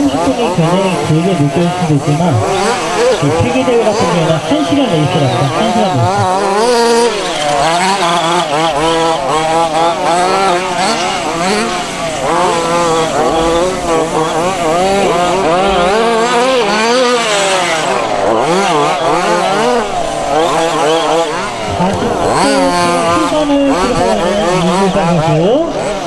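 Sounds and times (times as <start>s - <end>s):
model car engines revving: 0.0s - 26.0s.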